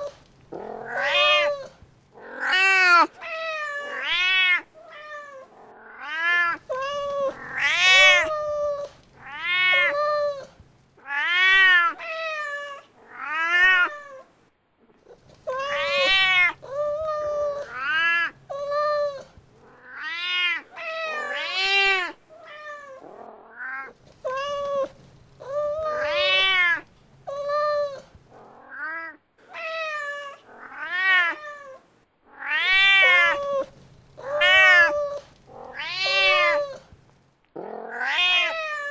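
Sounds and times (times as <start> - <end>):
cat meowing: 0.0 - 14.3, 15.2 - 37.0, 37.8 - 38.9.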